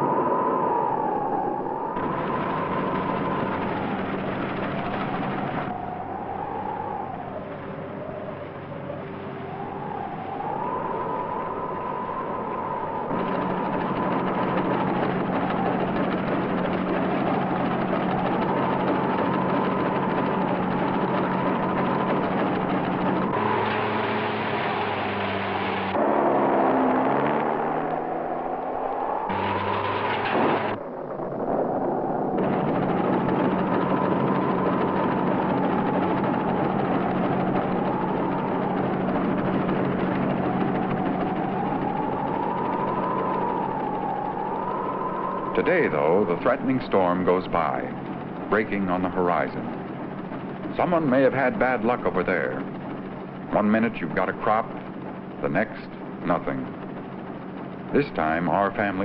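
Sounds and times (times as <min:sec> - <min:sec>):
high tone rising and falling: 0:00.0 - 0:57.1
combine harvester running: 0:02.0 - 0:06.8, 0:11.9 - 0:59.0.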